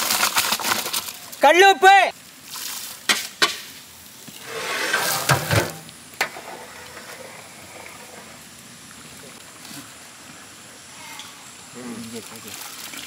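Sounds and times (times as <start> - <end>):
pot sizzling and hissing: 2.2 - 13.0.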